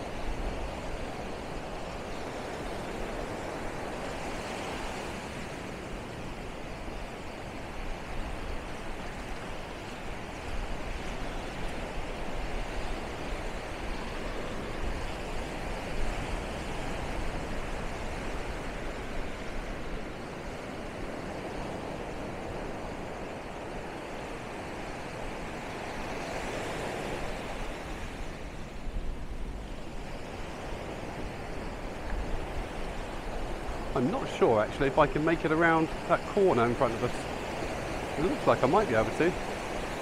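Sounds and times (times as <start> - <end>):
surf washing up beach: 0.0 - 40.0
wind rumbling on microphone: 0.0 - 40.0.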